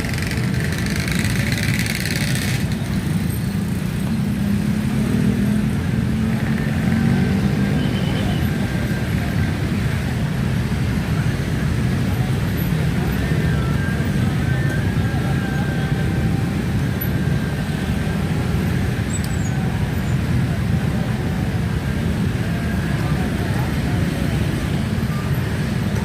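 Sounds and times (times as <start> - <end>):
vehicle engines rumbling: 0.0 - 26.0.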